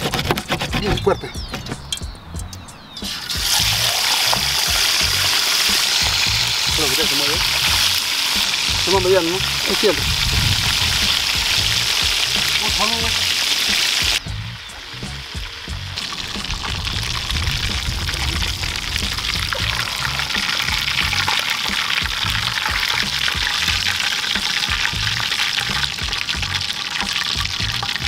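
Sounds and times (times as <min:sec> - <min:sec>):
background music with beat: 0:01.2 - 0:28.0
fish sizzling in hot oil: 0:03.1 - 0:28.0.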